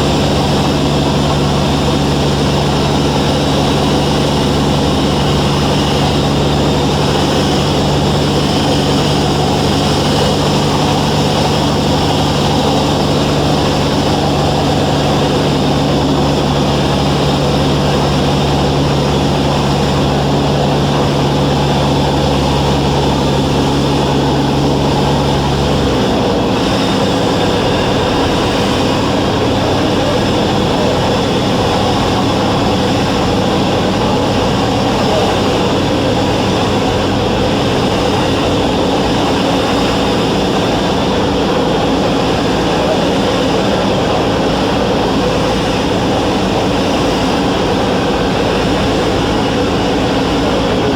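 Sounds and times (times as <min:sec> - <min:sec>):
aircraft engine drone in cabin: 0:00.0 - 0:50.9.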